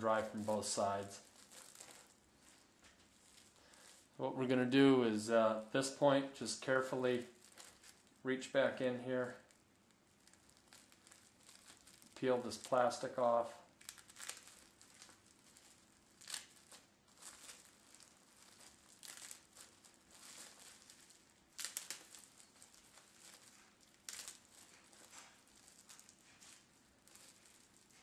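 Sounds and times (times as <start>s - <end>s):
plastic wrap crinkling: 0.0s - 28.0s.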